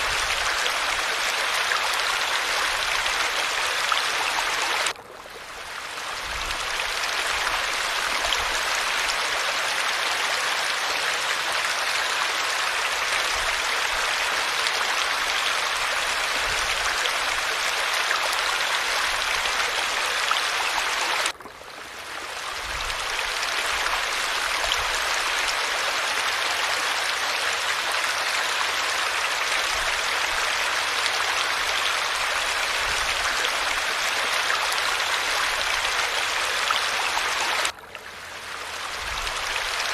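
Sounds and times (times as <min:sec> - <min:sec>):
falling water splashing: 0:00.0 - 0:39.9.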